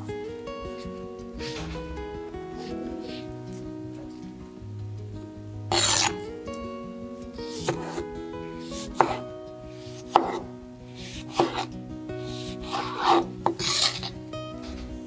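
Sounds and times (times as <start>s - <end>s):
light background music: 0.0s - 15.0s.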